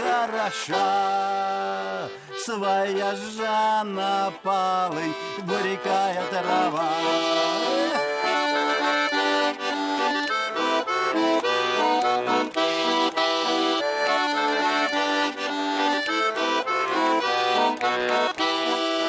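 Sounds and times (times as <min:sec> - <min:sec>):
accordion playing folk tune: 0:00.0 - 0:19.0.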